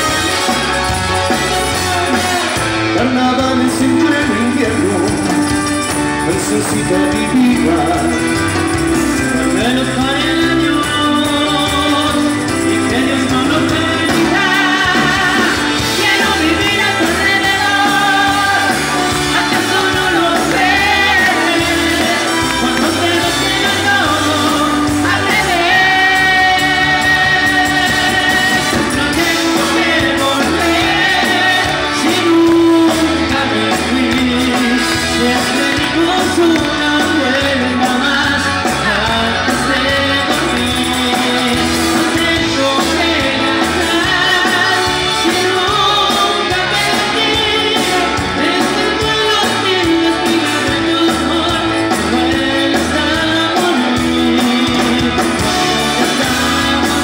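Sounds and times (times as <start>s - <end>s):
latin dance band with bass beat: 0.0s - 57.0s
person singing: 0.0s - 57.0s.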